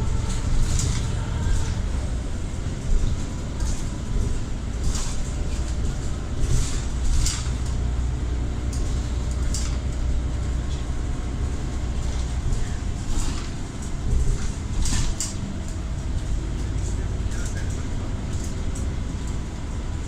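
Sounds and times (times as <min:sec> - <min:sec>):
bus engine drone: 0:00.0 - 0:20.0
gearbox whine: 0:00.0 - 0:20.0
rattles and clicks: 0:00.0 - 0:20.0.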